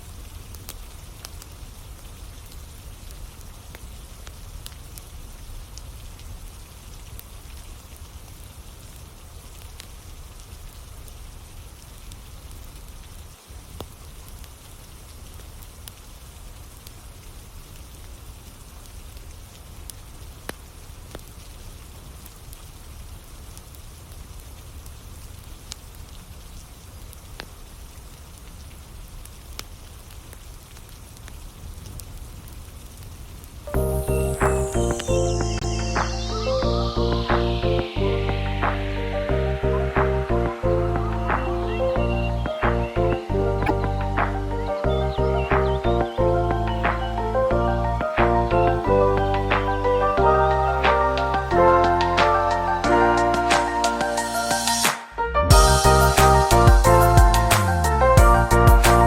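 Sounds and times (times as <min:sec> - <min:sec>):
steady rain falling: 0:00.0 - 0:59.0
wood fire crackling: 0:00.0 - 0:59.0.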